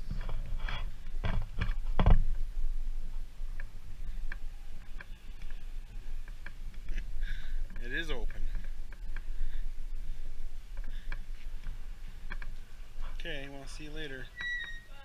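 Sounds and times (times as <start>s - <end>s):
wind rumble on microphone: 0.0s - 13.8s.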